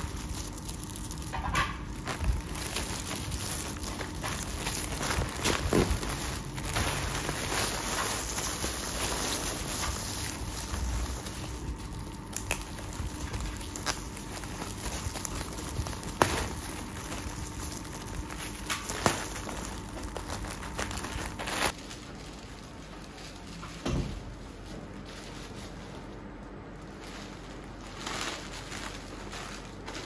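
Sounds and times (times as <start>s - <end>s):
wrappers rustling: 0.0s - 30.0s.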